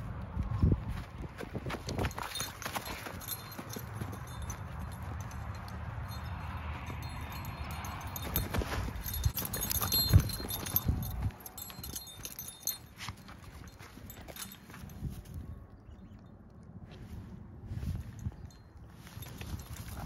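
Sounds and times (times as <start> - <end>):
footsteps on dry grass: 0.0 - 15.5, 16.8 - 20.0.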